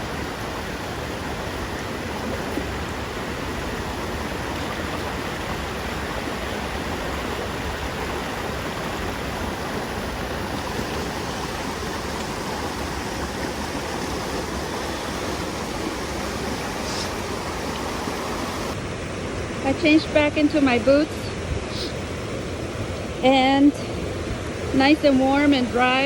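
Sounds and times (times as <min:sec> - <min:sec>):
creek rushing: 0:00.0 - 0:26.0.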